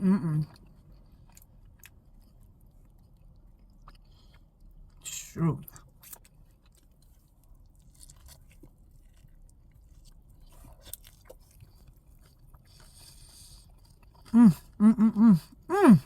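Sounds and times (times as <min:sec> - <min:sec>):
chewing with mouth clicks: 0:00.4 - 0:05.0, 0:05.6 - 0:14.8.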